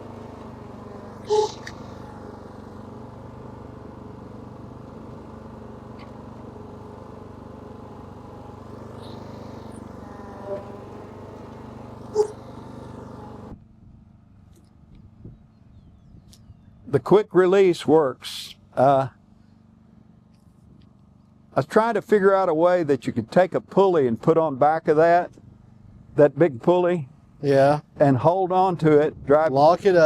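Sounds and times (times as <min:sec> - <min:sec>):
lawn mower engine running: 0:00.0 - 0:15.5, 0:16.9 - 0:30.0.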